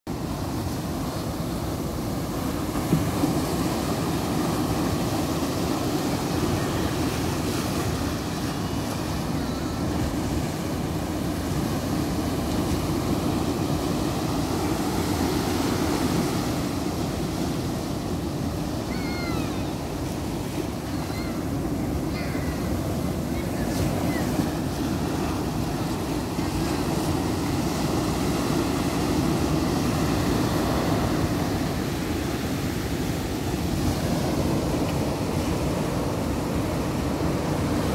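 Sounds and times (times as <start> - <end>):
sea waves breaking: 0.1 - 37.9.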